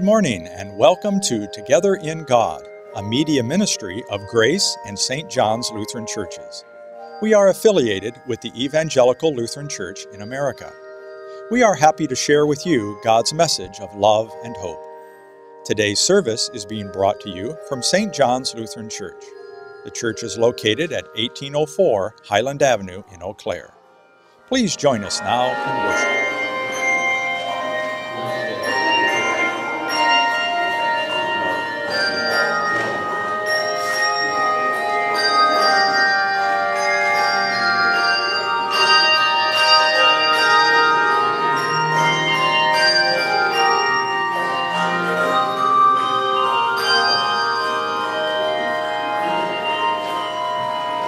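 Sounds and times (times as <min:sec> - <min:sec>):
handbell choir playing: 0:00.0 - 0:51.0.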